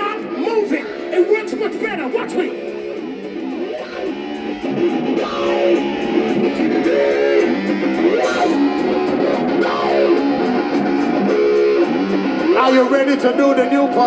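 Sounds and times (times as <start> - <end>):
steady drum beat: 0.0 - 13.4
electric guitar riff: 0.0 - 14.0.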